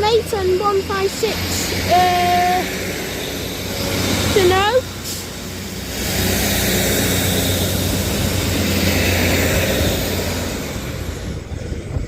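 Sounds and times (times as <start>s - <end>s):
diesel train engines running: 0.0s - 12.0s
train rushing noise: 0.0s - 12.0s.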